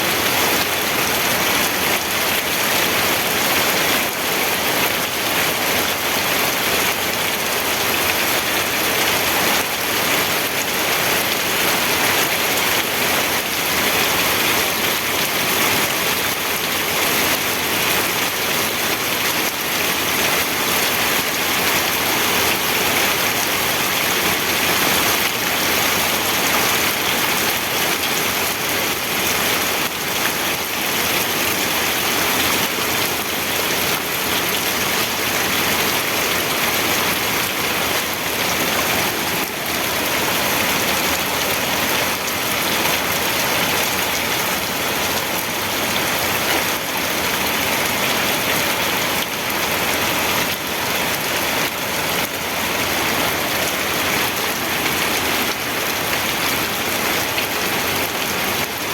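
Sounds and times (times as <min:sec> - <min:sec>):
steady rainfall on a surface: 0:00.0 - 0:58.9.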